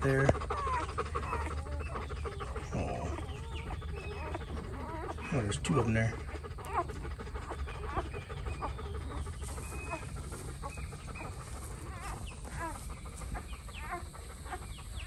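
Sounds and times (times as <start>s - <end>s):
puppies squeaking: 0.0s - 15.0s.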